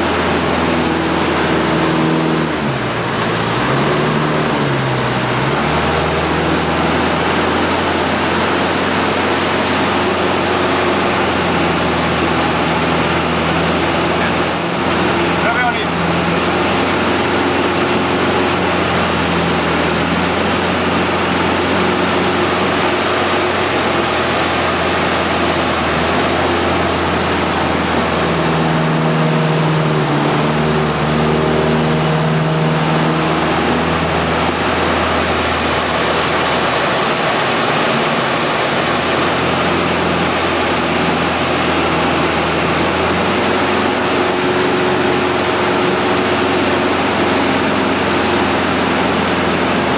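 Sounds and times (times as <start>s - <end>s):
plane engine and propeller: 0.0s - 49.9s.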